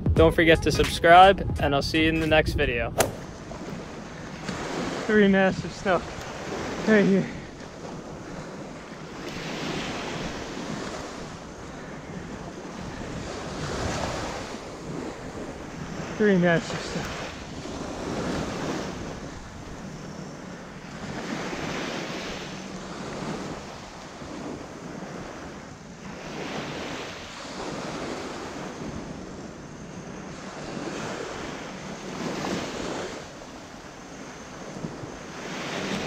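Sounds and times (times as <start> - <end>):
surf breaking on beach: 0.0 - 29.2, 30.4 - 36.0
wind rumbling on microphone: 0.0 - 36.0.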